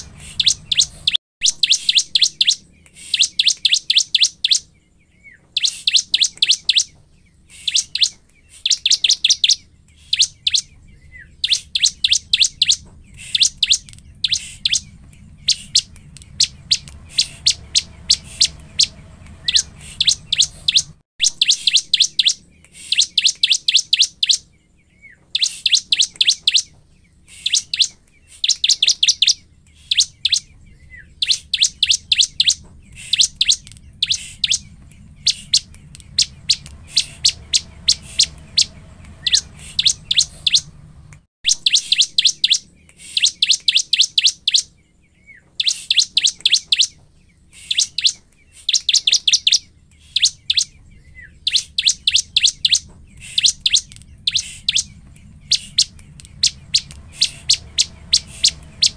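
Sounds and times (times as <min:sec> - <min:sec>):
bird chirping rapidly: 0:00.0 - 0:58.9.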